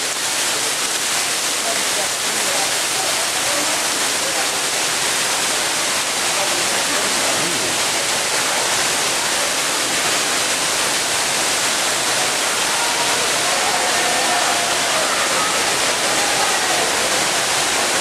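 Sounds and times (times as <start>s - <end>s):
falling water rushing: 0.0s - 18.0s.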